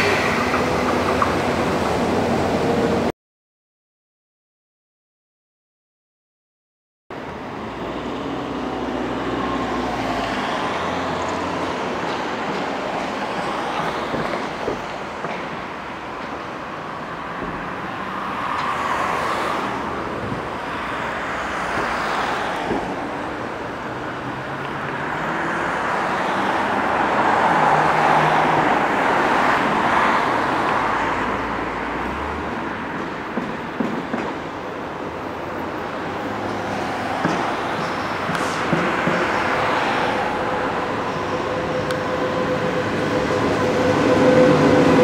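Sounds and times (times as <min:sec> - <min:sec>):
road traffic: 0:00.0 - 0:03.1, 0:07.1 - 0:45.0
train rumbling: 0:00.0 - 0:03.1, 0:07.2 - 0:45.0.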